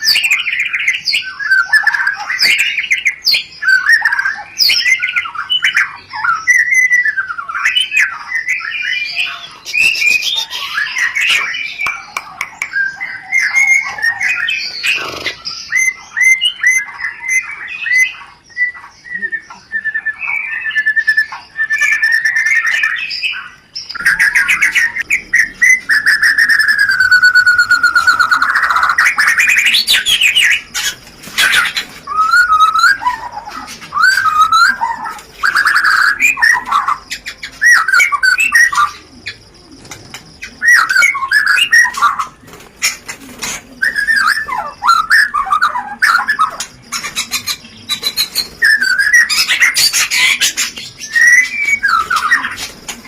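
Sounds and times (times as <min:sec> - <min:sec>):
songbird whistling and twittering: 0:00.0 - 0:53.0.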